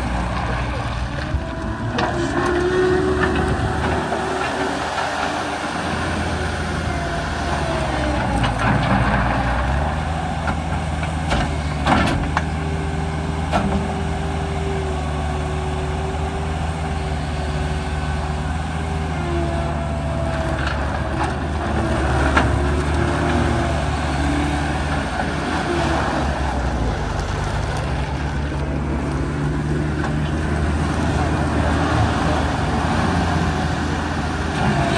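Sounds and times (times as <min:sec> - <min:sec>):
skid steer diesel engine running: 0:00.0 - 0:34.9.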